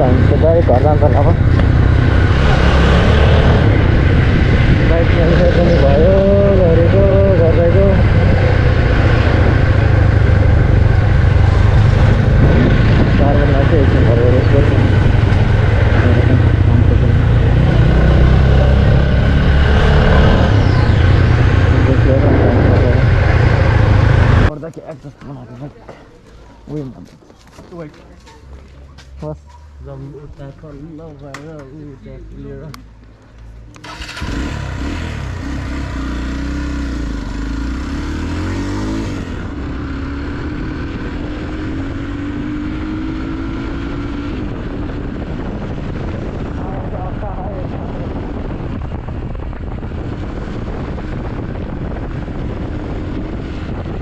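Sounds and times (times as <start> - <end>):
motorcycle engine running: 0.0 - 24.5, 33.0 - 54.0.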